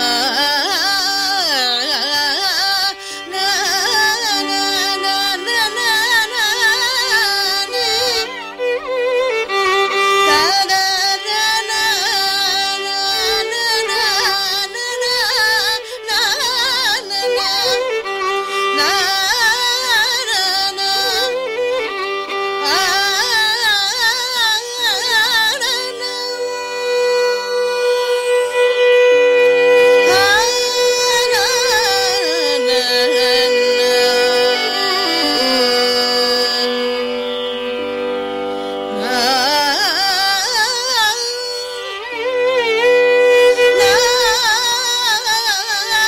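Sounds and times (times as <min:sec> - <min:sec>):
woman singing: 0:00.0 - 0:37.6, 0:38.9 - 0:46.0
violin accompaniment: 0:00.0 - 0:46.0.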